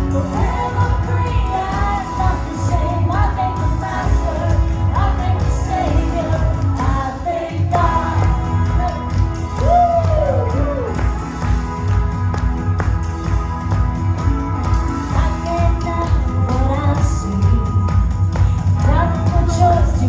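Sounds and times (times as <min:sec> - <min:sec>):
band with pulsing bass beat: 0:00.0 - 0:20.0.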